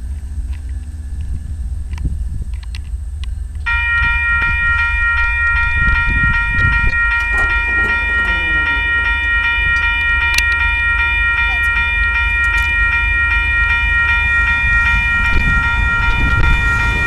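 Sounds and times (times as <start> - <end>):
railroad crossing bell ringing: 2.6 - 17.0.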